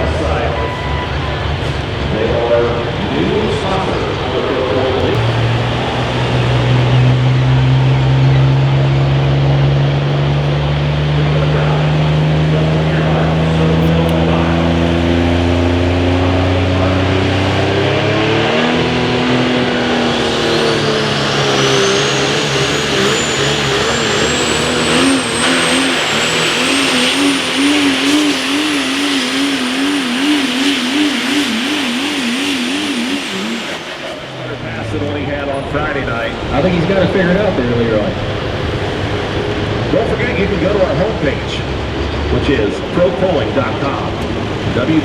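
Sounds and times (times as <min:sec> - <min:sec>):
diesel truck engine under load: 0:00.0 - 0:45.0
high turbo whine: 0:00.0 - 0:45.0.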